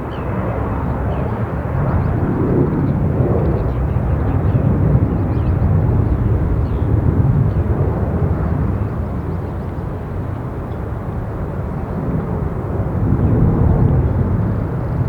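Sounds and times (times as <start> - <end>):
jet engine roar: 0.0 - 15.0
wind rumbling on microphone: 0.0 - 15.0.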